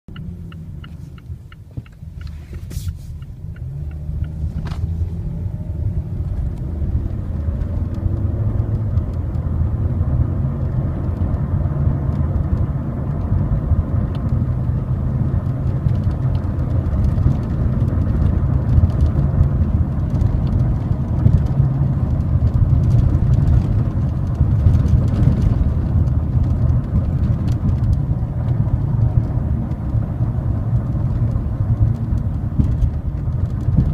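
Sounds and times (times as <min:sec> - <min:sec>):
car road and engine rumble: 0:00.1 - 0:33.9.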